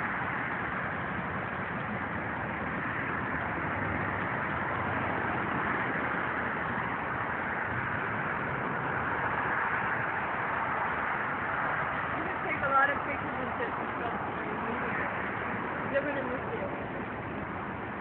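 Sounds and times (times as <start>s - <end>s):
road traffic rushing hiss: 0.0s - 18.0s.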